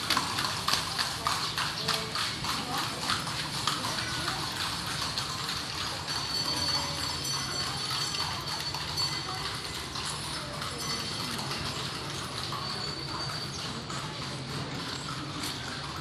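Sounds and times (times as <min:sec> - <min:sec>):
horse hooves on cobblestones: 0:00.0 - 0:16.0
street noise: 0:00.0 - 0:16.0.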